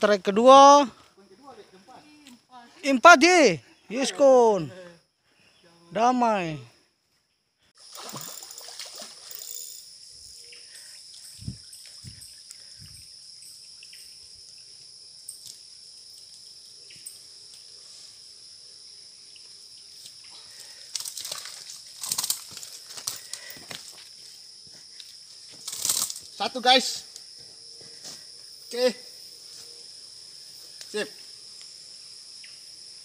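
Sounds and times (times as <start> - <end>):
insect drone: 0.0 - 33.0.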